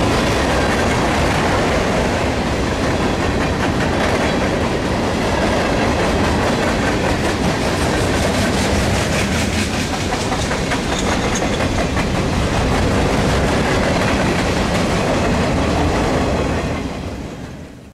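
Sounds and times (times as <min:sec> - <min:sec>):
wheels clicking over rail joints: 0:00.0 - 0:16.8
freight train wheels rumbling: 0:00.0 - 0:17.9.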